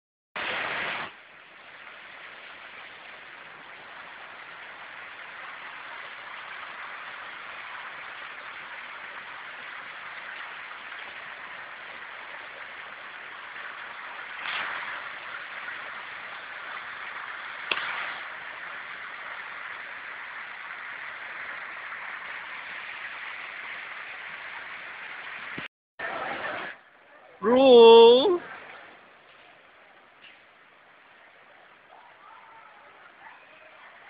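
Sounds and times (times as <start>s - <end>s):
water rush: 0.4s - 26.8s, 27.4s - 29.7s
fountain water splashing: 0.4s - 34.0s.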